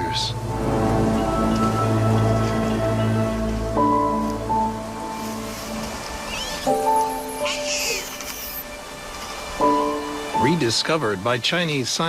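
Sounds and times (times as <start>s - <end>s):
sustained music chords: 0.0s - 11.0s.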